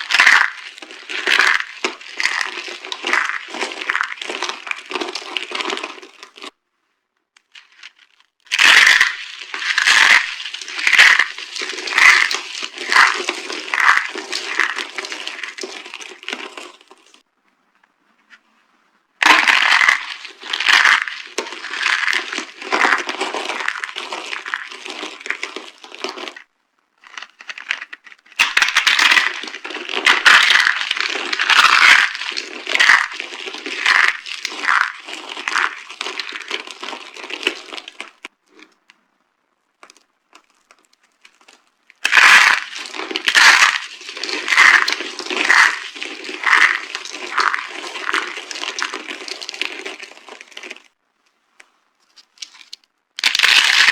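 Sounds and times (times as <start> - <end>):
soap boxes being crushed: 0.0 - 6.5, 7.5 - 17.2, 19.2 - 38.6, 39.8 - 50.9, 52.3 - 53.9.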